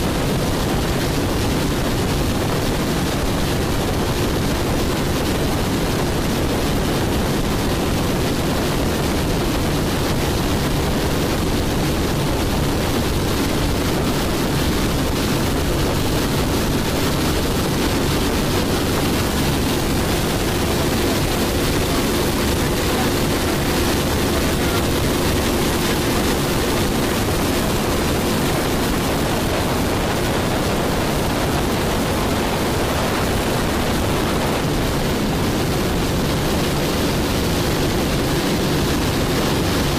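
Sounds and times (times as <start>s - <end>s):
boat engine hum: 0.0s - 39.9s
water rushing: 0.0s - 39.9s
wind noise: 0.0s - 39.9s.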